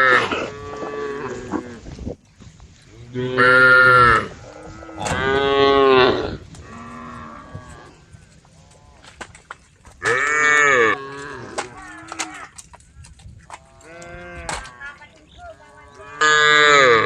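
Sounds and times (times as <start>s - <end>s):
cows mooing: 0.0s - 1.9s, 2.9s - 9.2s, 10.0s - 12.7s, 13.5s - 17.0s.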